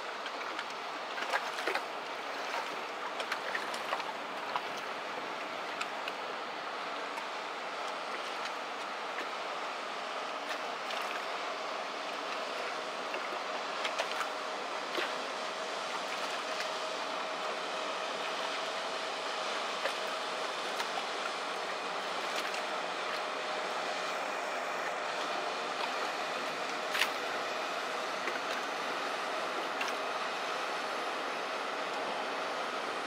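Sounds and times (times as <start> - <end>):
diesel engine running: 0.0 - 33.0
water rushing along hull: 0.0 - 33.0.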